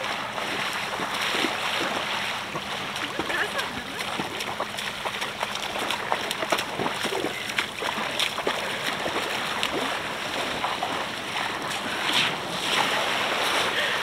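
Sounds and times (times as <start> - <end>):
feet splashing in shallow water: 0.0 - 14.0
steady wash of water: 0.0 - 14.0.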